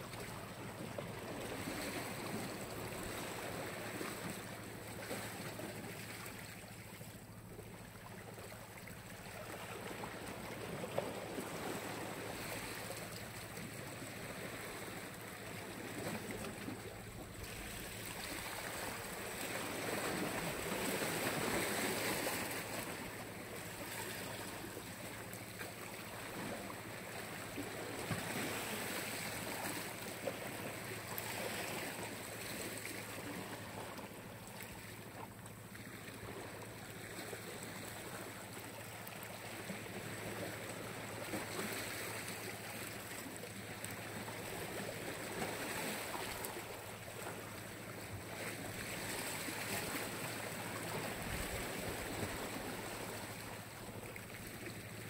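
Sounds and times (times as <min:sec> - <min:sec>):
small waves washing onto shore: 0:00.0 - 0:55.0.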